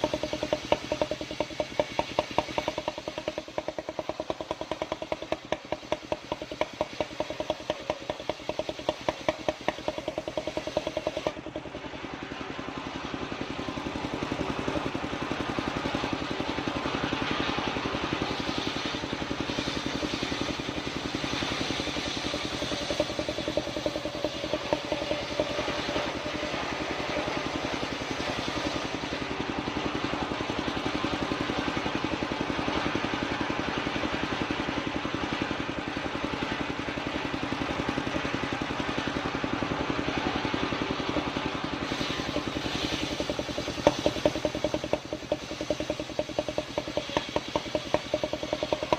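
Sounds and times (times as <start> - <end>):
saw engine clattering: 0.0 - 48.9.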